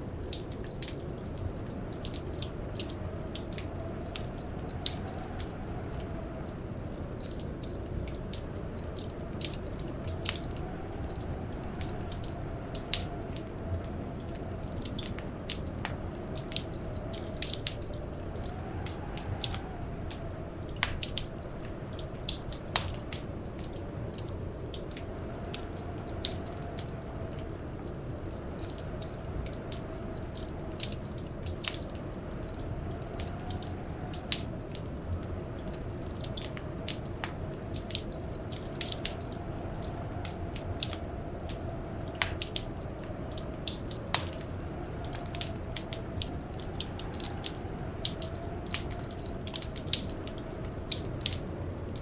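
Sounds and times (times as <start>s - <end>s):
wood fire crackling and popping: 0.1s - 52.0s.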